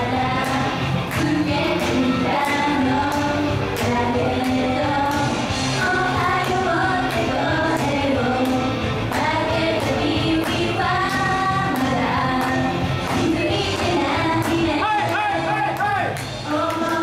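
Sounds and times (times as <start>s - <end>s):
women singing in unison: 0.0s - 15.5s, 16.4s - 17.0s
upbeat pop backing track: 0.0s - 17.0s.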